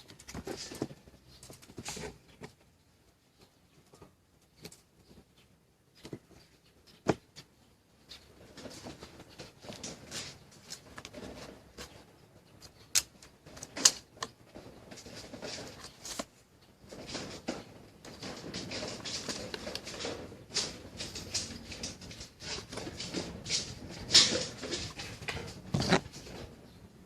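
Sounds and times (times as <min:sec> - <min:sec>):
rustling and scraping: 0:00.0 - 0:27.0.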